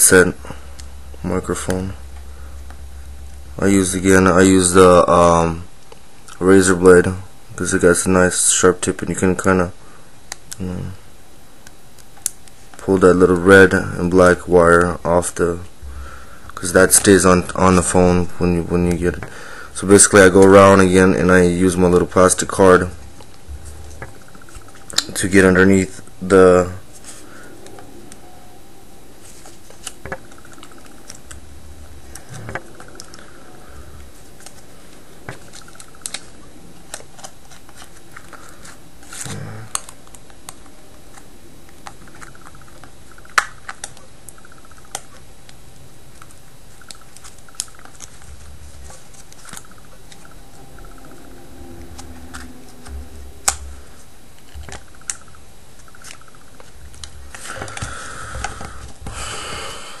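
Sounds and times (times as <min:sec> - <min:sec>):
steady background hiss: 0:00.0 - 1:00.0.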